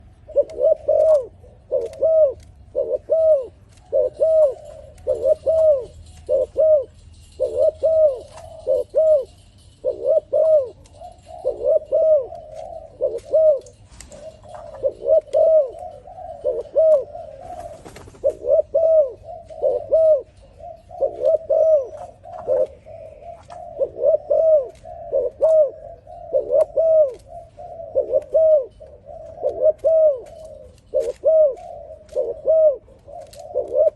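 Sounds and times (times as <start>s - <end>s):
dove cooing: 0.0s - 33.9s.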